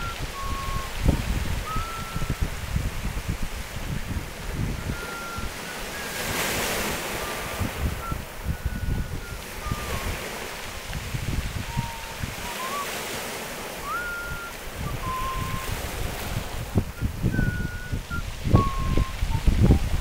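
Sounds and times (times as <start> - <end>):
faint thin whistling tone: 0.0 - 20.0
waves washing up cobble beach: 0.0 - 20.0
wind buffeting microphone: 0.0 - 20.0.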